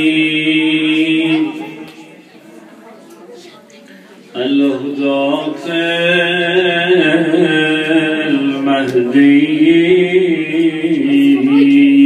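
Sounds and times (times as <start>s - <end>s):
man chanting melodic invocation: 0.0s - 2.2s, 4.4s - 12.0s.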